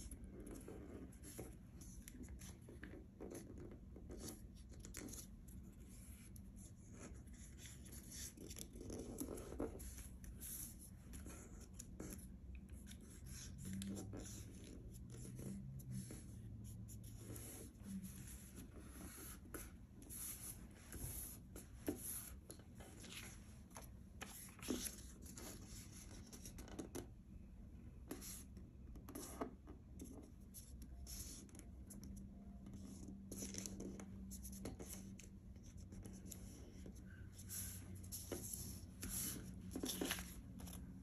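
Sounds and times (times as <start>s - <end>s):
paper rustling and scratching: 0.2s - 27.0s, 33.0s - 41.0s.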